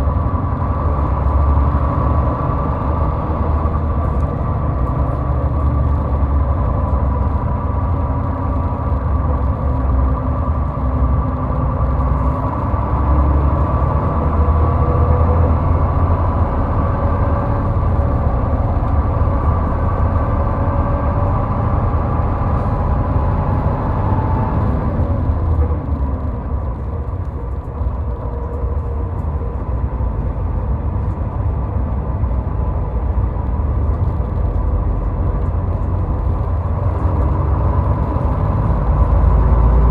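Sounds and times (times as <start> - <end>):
car road noise on highway: 0.0 - 39.9.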